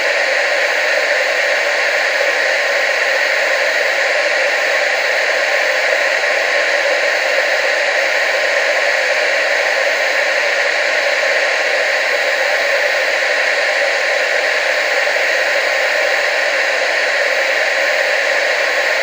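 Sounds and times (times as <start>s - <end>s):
tv static hiss: 0.0s - 19.0s.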